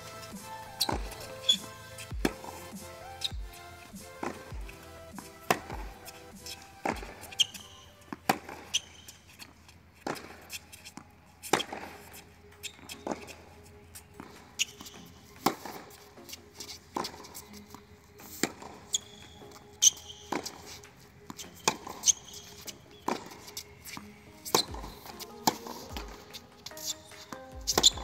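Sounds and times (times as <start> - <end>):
faint music: 0.0 - 28.0
tennis balls struck by racquets: 0.0 - 28.0.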